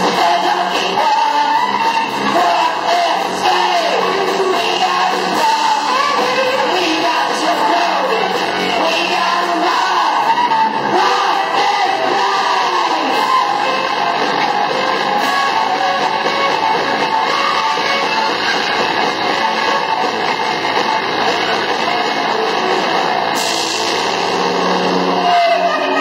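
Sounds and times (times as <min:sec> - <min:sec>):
electric guitar: 0:00.0 - 0:26.0
rock band playing live: 0:00.0 - 0:26.0.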